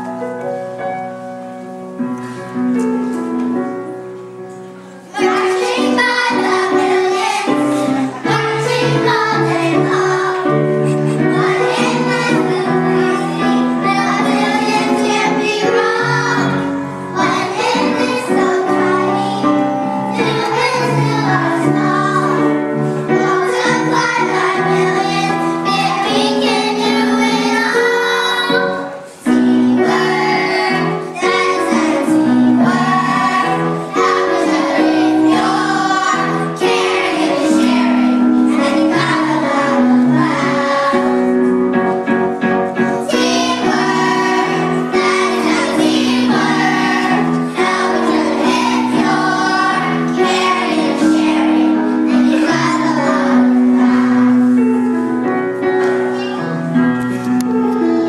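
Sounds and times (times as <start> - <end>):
musical accompaniment: 0.0 - 58.0
children singing: 5.1 - 41.9, 42.7 - 55.2.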